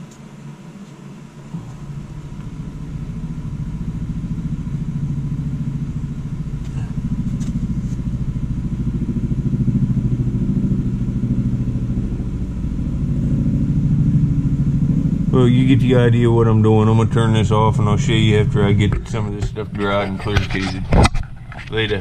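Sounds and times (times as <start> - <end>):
engine pulsing rumble: 0.0 - 22.0.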